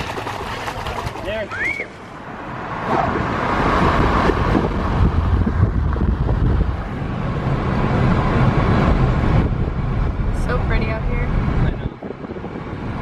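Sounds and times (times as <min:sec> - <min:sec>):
car road rumble: 0:00.0 - 0:13.0
wind noise: 0:02.6 - 0:13.0.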